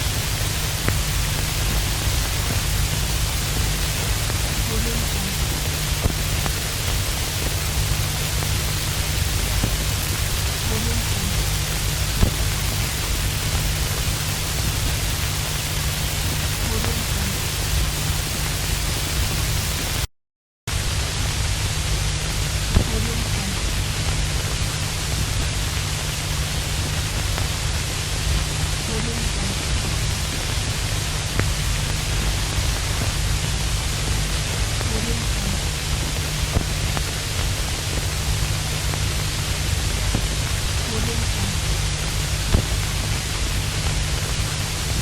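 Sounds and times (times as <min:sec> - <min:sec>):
vinyl record pops: 0:00.0 - 0:20.0, 0:20.7 - 0:45.0
vinyl record crackling hiss: 0:00.0 - 0:20.1, 0:20.7 - 0:45.0.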